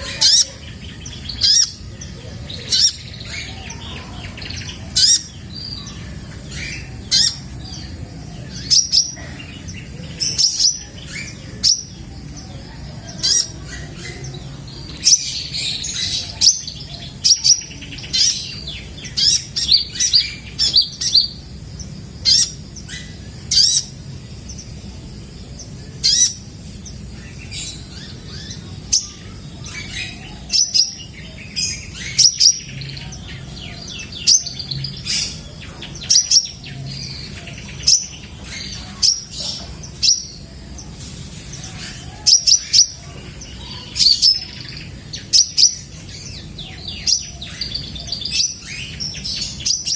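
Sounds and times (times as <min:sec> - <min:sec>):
sunbird chirping: 0:00.0 - 0:49.9.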